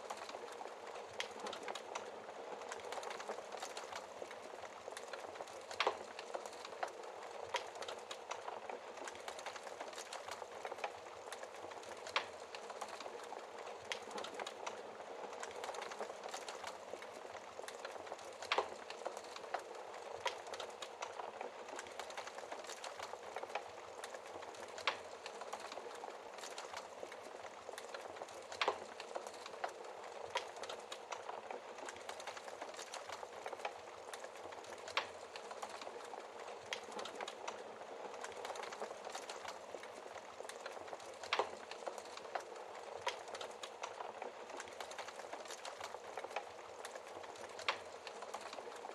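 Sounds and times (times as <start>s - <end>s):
fire pops and snaps: 0.0s - 48.9s
wood fire crackling: 0.0s - 48.9s.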